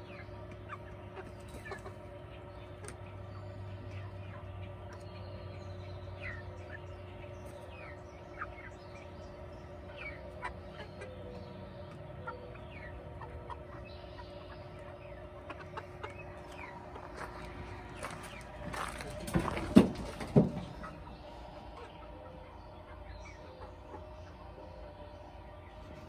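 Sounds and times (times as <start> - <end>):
hens clucking and chirping: 0.0 - 26.0
steady low hum: 0.0 - 26.0.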